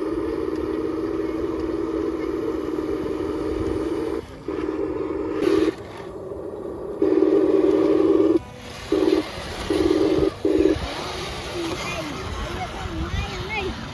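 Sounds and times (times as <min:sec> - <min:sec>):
electric motor and gearbox whine: 0:00.0 - 0:12.0.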